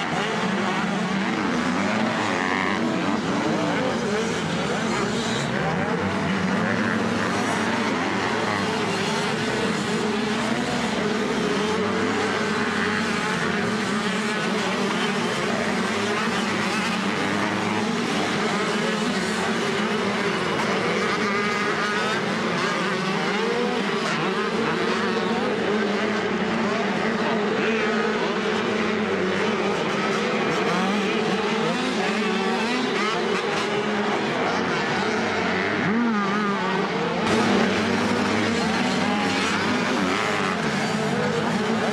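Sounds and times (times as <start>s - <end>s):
motocross bikes racing: 0.0s - 41.9s.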